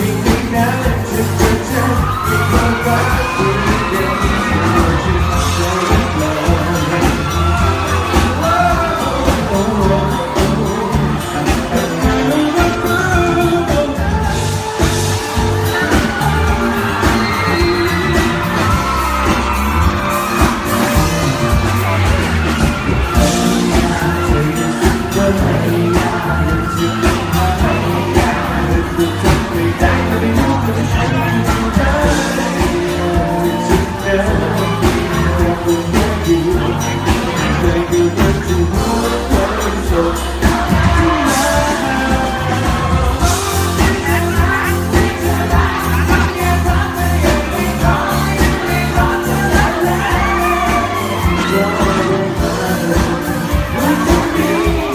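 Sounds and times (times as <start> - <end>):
audience yelling and whooping: 0.0 - 54.9
live pop band playing: 0.0 - 54.9
person singing: 0.0 - 54.9.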